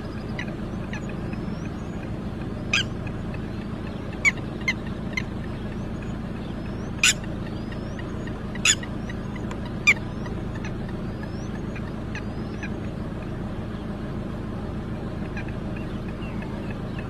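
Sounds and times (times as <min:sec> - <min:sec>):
lapwing calling sharply: 0:00.0 - 0:13.3, 0:15.0 - 0:17.0
steady low rumble: 0:00.0 - 0:17.0.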